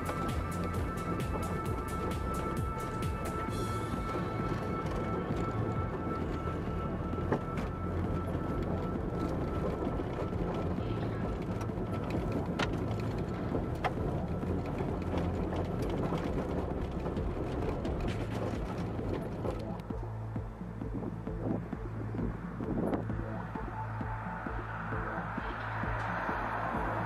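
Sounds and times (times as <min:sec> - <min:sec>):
background music: 0:00.0 - 0:27.0
tyre and road noise: 0:00.0 - 0:27.0.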